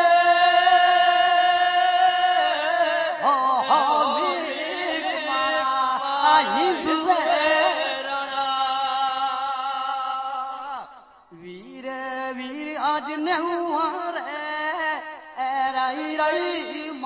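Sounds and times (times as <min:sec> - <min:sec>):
person singing chant-like folk song: 0:00.0 - 0:17.0.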